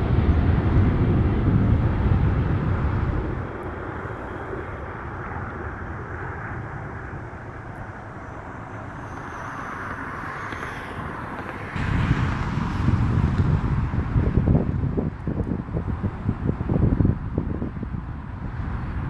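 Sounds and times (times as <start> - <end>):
distant jet engines rushing: 0.0 - 19.0
wind rumble on microphone: 0.0 - 19.0.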